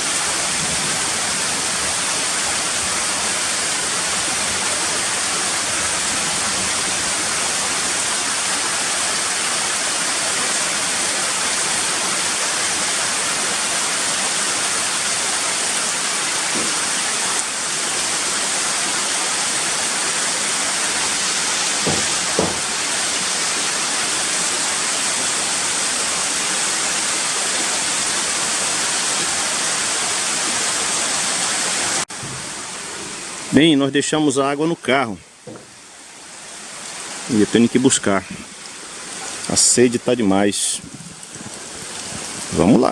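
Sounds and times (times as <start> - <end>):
rushing water hiss: 0.0 - 42.9.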